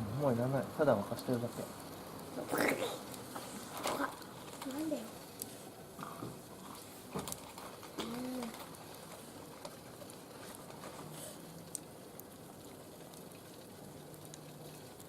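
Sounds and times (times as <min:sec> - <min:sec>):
fire crackles: 0:00.0 - 0:15.0
fire hissing: 0:00.0 - 0:15.0.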